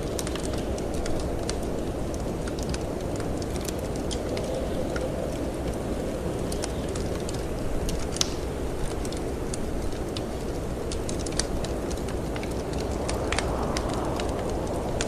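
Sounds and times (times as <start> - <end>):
snowstorm wind: 0.0 - 15.0
wood fire crackling: 0.0 - 15.0.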